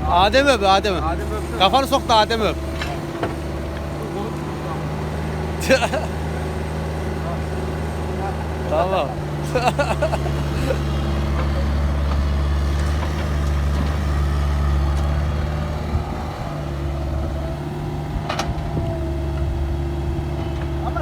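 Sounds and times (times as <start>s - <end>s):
diesel engine running steadily: 0.0s - 21.0s.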